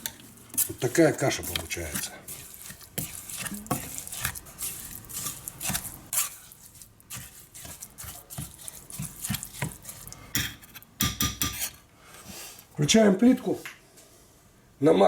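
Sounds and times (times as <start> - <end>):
spoon stirring thick mash: 0.0 - 12.8.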